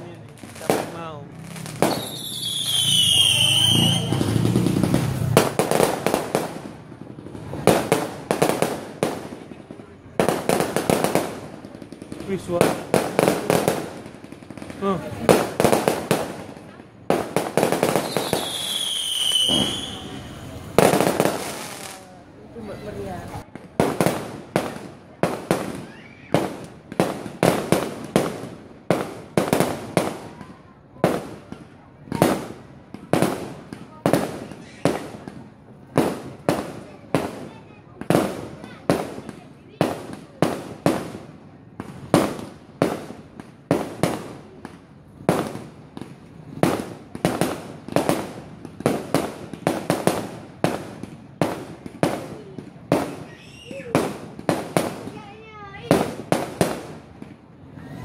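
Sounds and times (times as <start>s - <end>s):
fireworks bangs echoing: 0.0s - 58.0s.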